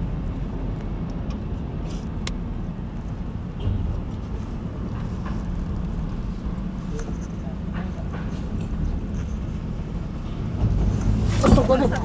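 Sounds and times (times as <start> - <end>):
minibus engine rumble: 0.0 - 12.0.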